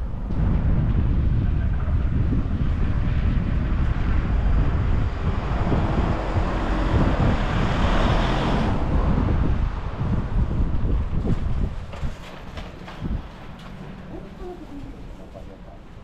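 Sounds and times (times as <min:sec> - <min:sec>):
loud rushing noise: 0:00.0 - 0:13.3
wind buffeting microphone: 0:00.0 - 0:16.0.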